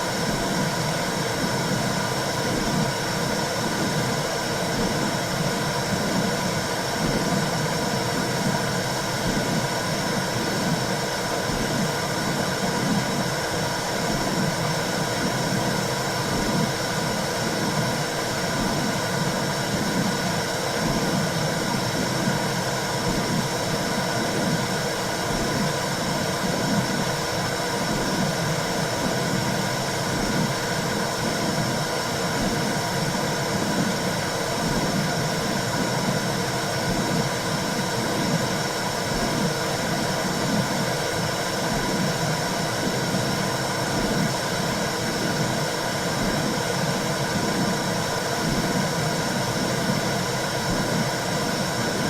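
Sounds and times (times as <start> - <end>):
low rhythmic pulsing: 0.0 - 52.0.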